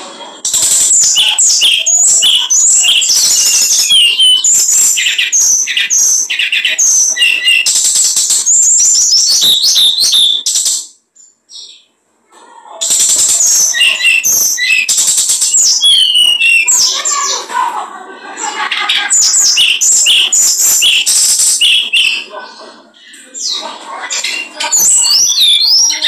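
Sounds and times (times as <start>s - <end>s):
songbird singing: 0.0s - 12.0s, 12.8s - 17.5s, 18.9s - 26.0s.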